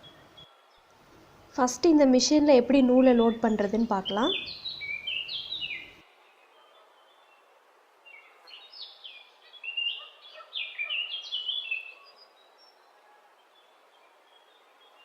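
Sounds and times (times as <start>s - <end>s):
faint steady hiss: 0.0s - 15.0s
birds chirping: 1.6s - 15.0s.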